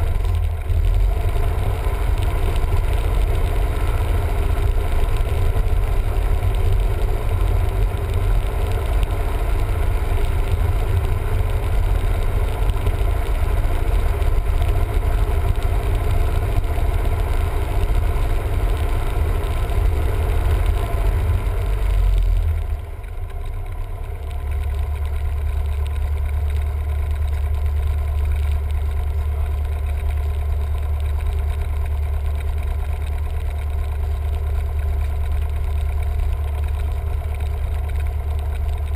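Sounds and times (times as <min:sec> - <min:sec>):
light aircraft engine and propeller: 0:04.0 - 0:38.9.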